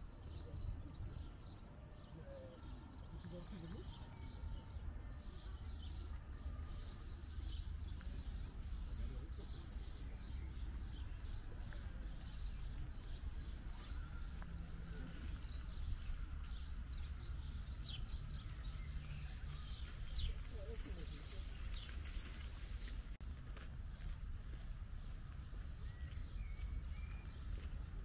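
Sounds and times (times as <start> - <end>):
low city rumble: 0.0 - 28.0
small birds chirping: 0.0 - 28.0.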